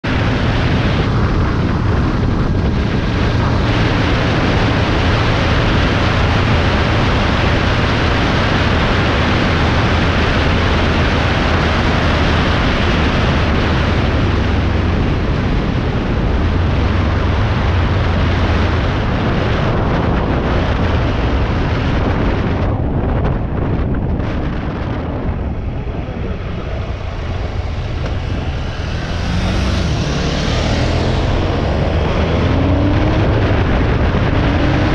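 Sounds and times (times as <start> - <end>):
deep rumble: 0.0 - 34.9
highway wind and road noise: 0.0 - 34.9
wind buffeting microphone: 0.0 - 34.9.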